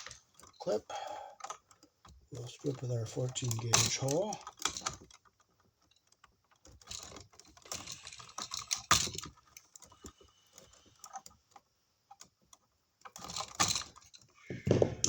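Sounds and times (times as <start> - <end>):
wire strippers clicking and scraping: 0.0 - 0.8, 1.4 - 15.0.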